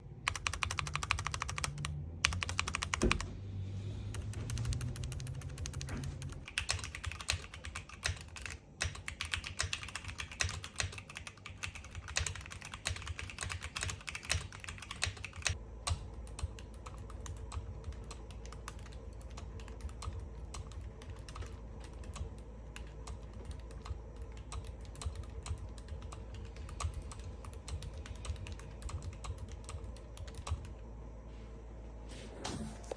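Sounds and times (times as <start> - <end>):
mechanical keyboard typing: 0.2 - 3.3, 4.1 - 30.8.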